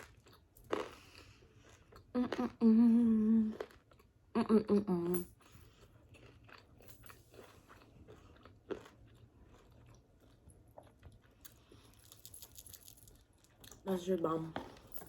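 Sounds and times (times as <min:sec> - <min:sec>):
chewing pizza: 0:00.0 - 0:13.9.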